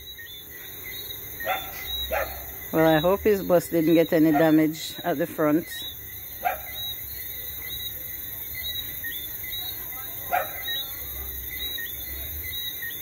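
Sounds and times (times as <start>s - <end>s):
insects and frogs chirping: 0.0s - 13.0s.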